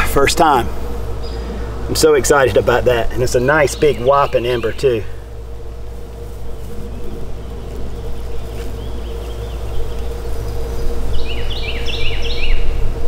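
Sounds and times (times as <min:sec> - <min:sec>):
faint hum: 0:00.0 - 0:13.0
low background rumble: 0:00.0 - 0:13.0
small birds chirping: 0:00.1 - 0:13.0.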